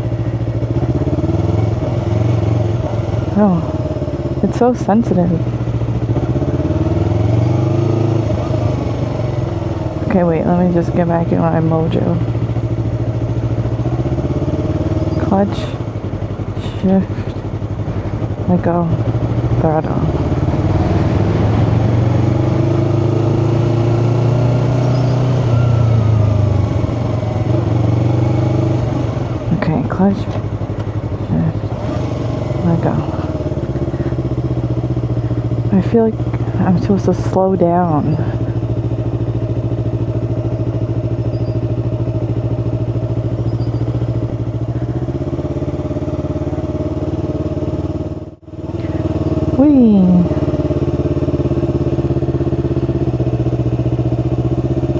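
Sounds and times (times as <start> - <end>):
motorcycle engine under throttle: 0.0 - 54.9.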